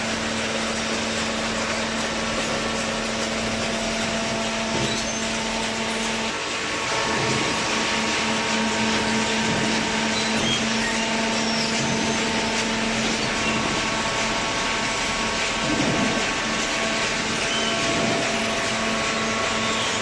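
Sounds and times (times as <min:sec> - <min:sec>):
baler motor humming and whirring: 0:00.0 - 0:20.0.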